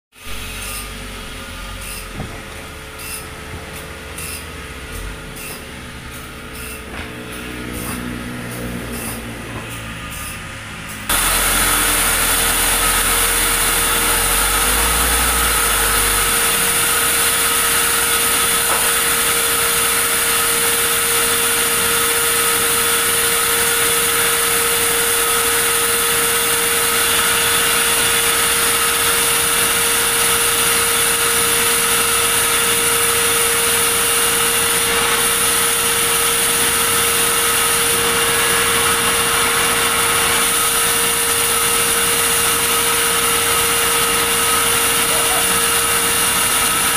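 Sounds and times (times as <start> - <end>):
machine running noise: 0.2 - 46.9
sawmill saw whining: 0.2 - 46.9.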